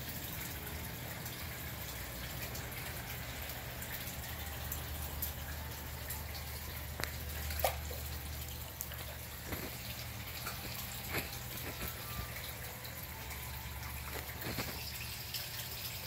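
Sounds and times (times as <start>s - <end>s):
pond water splashing and dripping: 0.0s - 16.0s.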